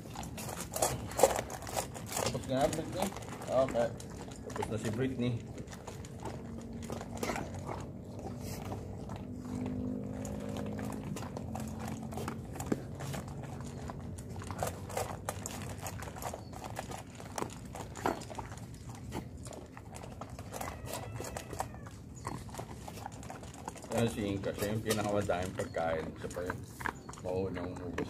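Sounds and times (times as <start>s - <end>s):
dogs crunching dry kibble: 0.0s - 28.0s.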